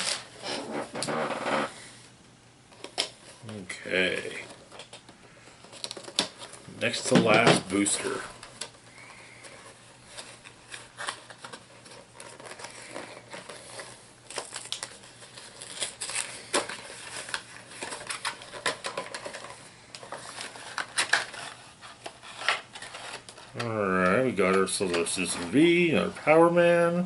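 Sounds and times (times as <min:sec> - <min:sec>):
packaging rustling and crinkling: 0:00.0 - 0:01.2, 0:02.7 - 0:26.2.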